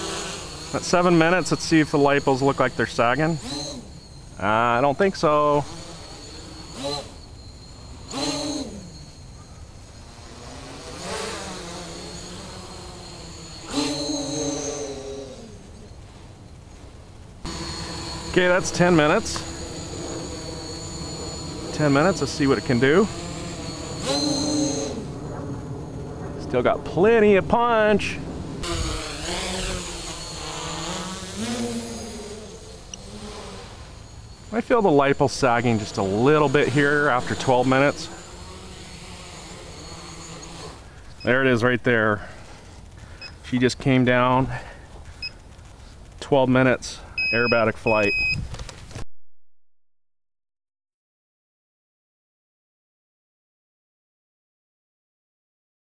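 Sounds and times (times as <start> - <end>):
quadcopter motors whining: 0.0 - 48.4.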